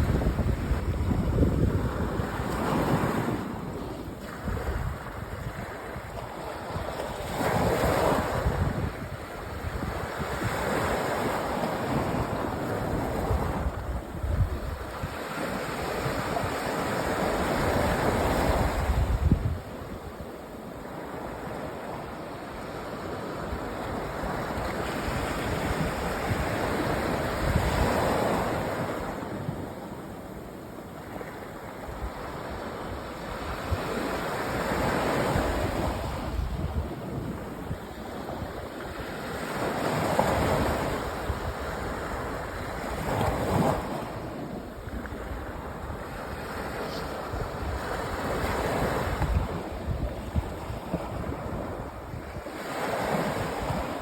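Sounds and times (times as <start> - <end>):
wind buffeting microphone: 0.0 - 20.4, 23.4 - 29.7, 31.9 - 54.0
sea waves breaking on beach: 0.0 - 54.0.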